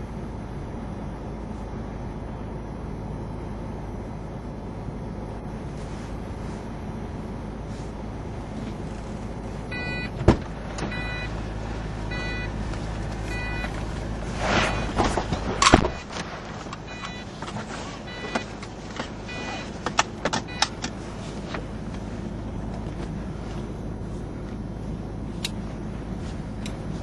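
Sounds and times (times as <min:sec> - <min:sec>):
deep car engine drone: 0:00.0 - 0:27.0
road noise: 0:00.0 - 0:27.0.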